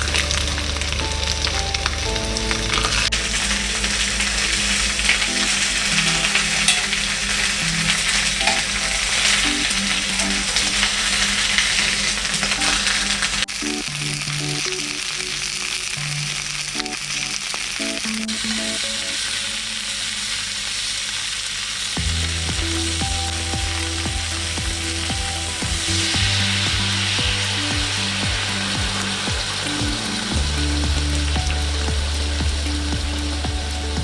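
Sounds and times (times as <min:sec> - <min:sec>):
background music with beat: 0:00.0 - 0:20.0, 0:22.0 - 0:34.0
food sizzling in a pan: 0:02.2 - 0:34.0.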